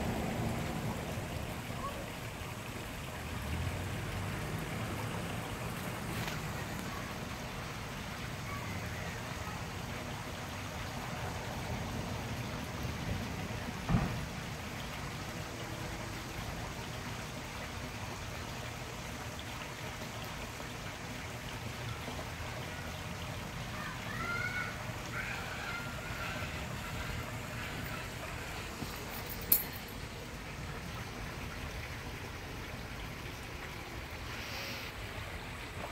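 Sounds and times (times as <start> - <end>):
outdoor background noise: 0.0 - 35.9.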